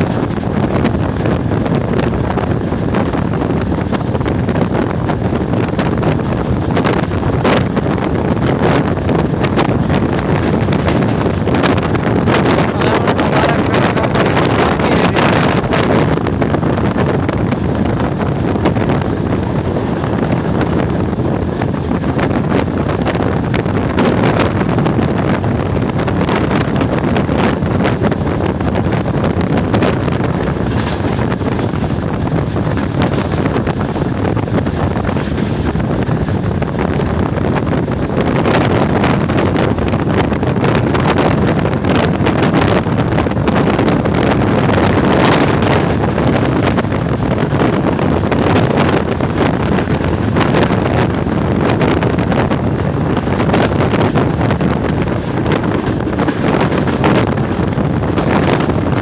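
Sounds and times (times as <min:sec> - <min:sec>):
train running on rails: 0:00.0 - 0:59.0
wind buffeting the microphone: 0:00.0 - 0:59.0.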